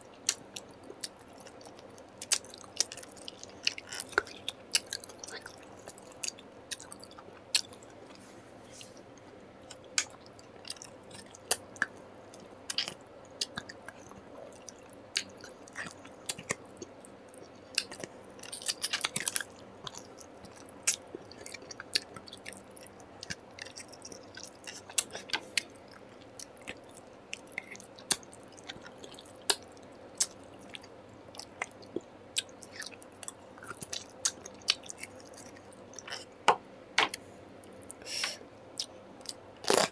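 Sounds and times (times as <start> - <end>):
person chewing food: 0.1 - 36.4, 37.1 - 39.9.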